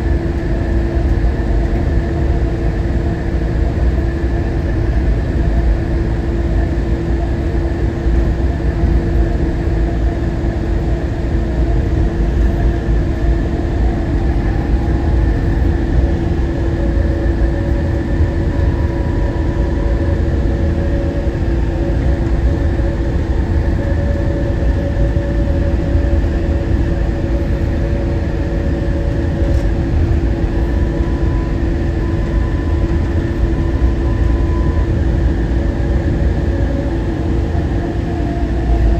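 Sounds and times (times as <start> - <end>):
train car low rumble: 0.0 - 38.9
drive motor whine: 0.1 - 38.9.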